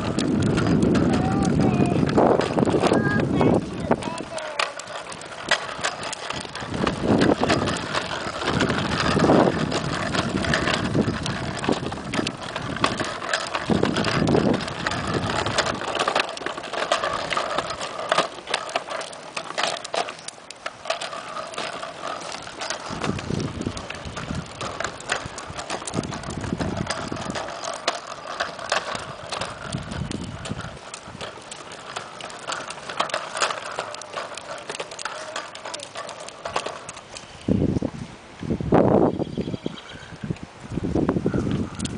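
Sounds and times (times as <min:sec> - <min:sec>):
wind rumble on microphone: 0:00.0 - 0:18.2, 0:21.0 - 0:41.9
plastic wheels clattering on concrete: 0:00.0 - 0:41.9.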